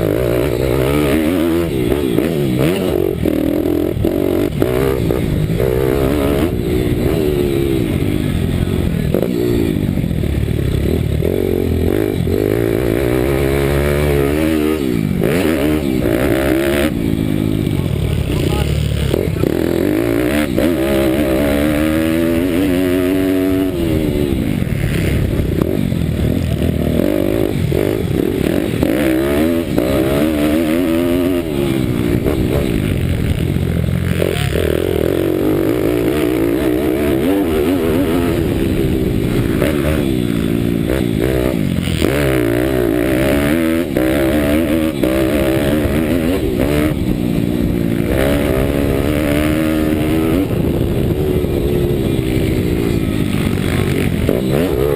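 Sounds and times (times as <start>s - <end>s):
pitbike engine revving: 0.0s - 54.9s.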